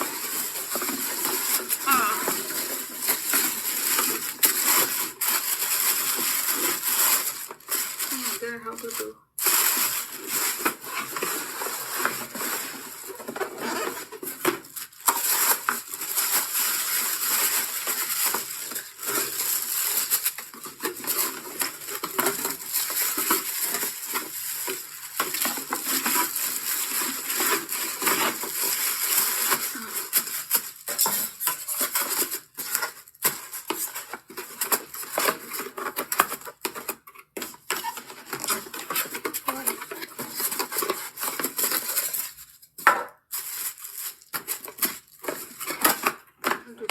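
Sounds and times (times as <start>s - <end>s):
packaging rustling: 0.0s - 46.9s.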